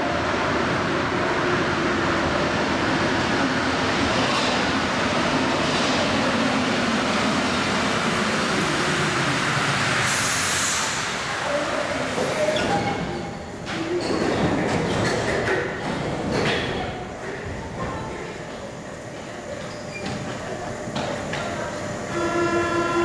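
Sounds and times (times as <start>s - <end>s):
metro train slowing to a stop: 0.0s - 23.0s.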